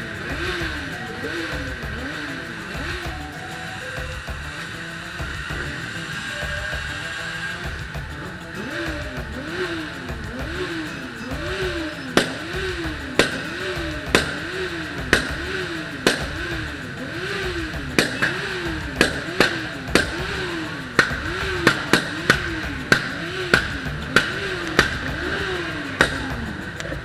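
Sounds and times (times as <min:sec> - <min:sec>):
motorcycle engines running: 0:00.0 - 0:27.0
sharp loud cracks: 0:00.0 - 0:27.0.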